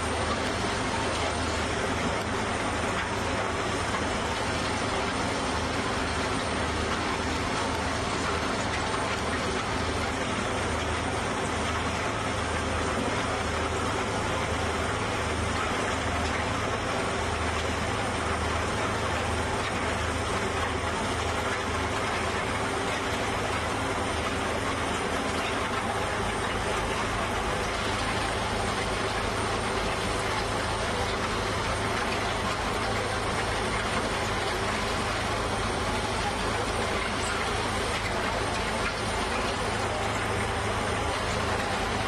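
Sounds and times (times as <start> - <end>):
drilling rig engine drone: 0.0 - 42.0.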